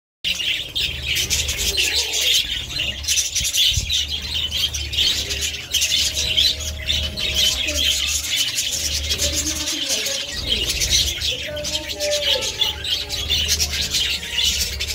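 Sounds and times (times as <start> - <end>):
budgerigars chirping: 0.3 - 14.9.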